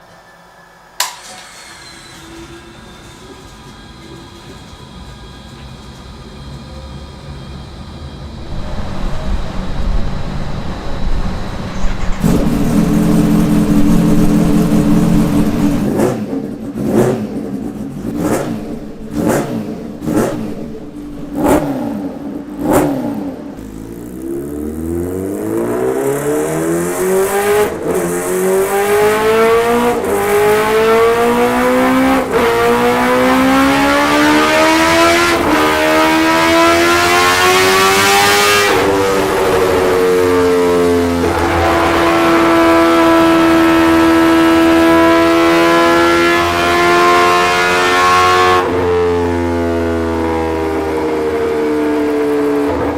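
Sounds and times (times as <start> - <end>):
motorcycle engine revving on dynamometer: 7.4 - 52.9.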